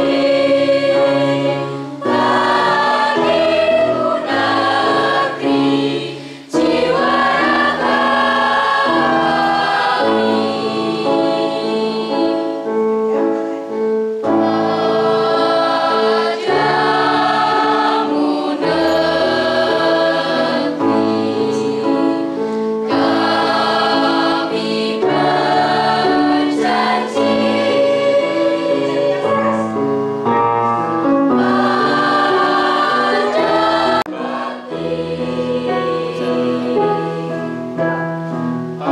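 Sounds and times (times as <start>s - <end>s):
mixed choir singing: 0.0s - 12.9s, 14.1s - 38.9s.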